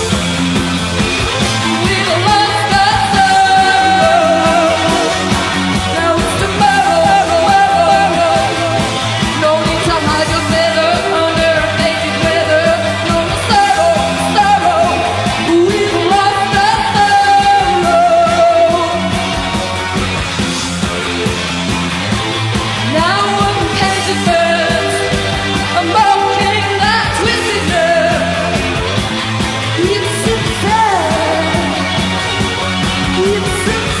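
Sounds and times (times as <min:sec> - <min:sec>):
driving drums: 0:00.0 - 0:34.0
rock band playing: 0:00.0 - 0:34.0.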